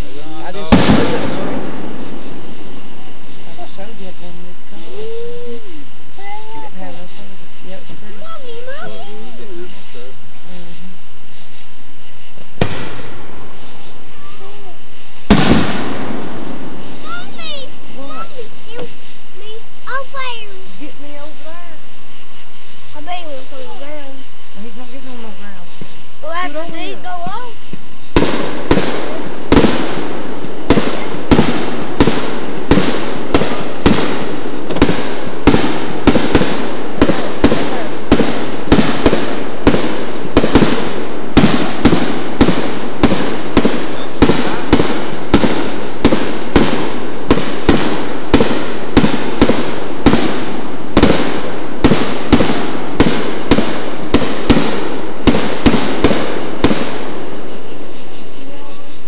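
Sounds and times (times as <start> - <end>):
firework cake popping: 0.0 - 22.4, 23.0 - 59.0.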